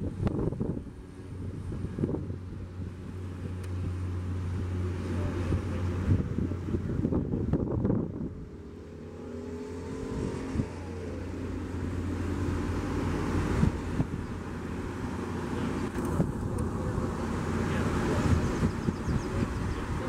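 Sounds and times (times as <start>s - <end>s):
turboprop engine at high power: 0.0s - 20.0s.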